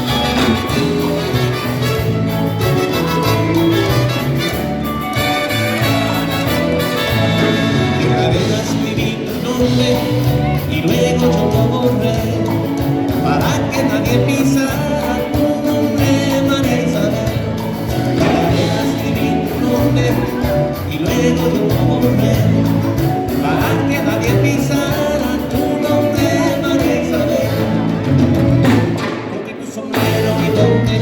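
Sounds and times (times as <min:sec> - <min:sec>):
live band playing latin music: 0:00.0 - 0:31.0.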